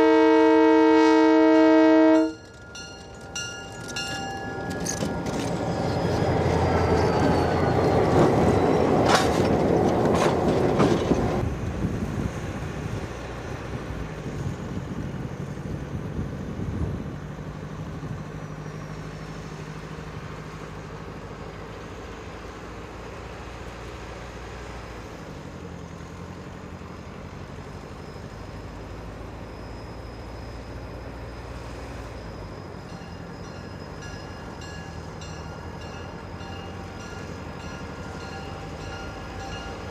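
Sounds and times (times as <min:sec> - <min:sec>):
diesel locomotives passing: 0:00.0 - 0:39.9
train cars rumbling and clattering: 0:02.1 - 0:39.9.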